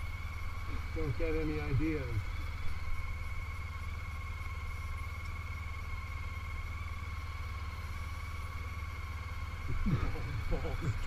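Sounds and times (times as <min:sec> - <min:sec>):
motorcycle engine drone: 0:00.0 - 0:11.0
thin steady whine: 0:00.0 - 0:11.0.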